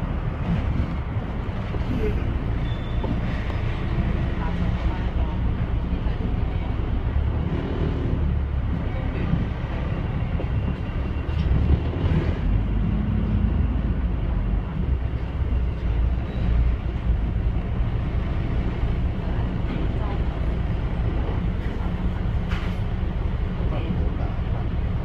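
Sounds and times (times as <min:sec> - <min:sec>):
diesel engine and road rumble: 0:00.0 - 0:25.0.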